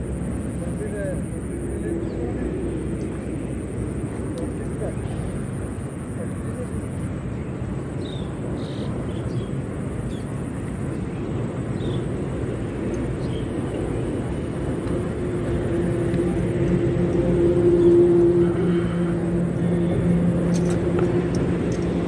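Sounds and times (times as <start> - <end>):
low outdoor rumble: 0.0 - 22.0
vehicle engine approaching: 0.0 - 22.0.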